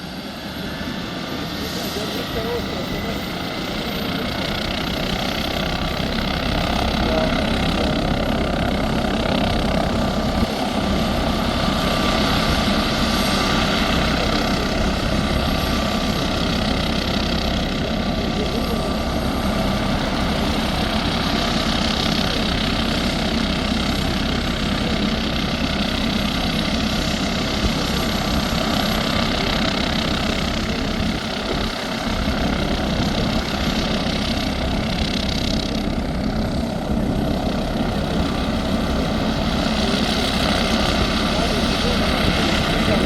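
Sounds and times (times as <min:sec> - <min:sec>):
helicopter engines and rotor: 0:00.0 - 0:43.0
high turbine whine: 0:00.0 - 0:43.0.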